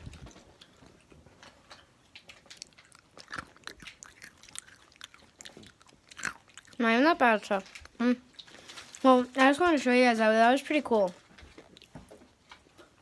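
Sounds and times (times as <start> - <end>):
chewing and mouth clicks: 0.0 - 9.9, 11.0 - 13.0.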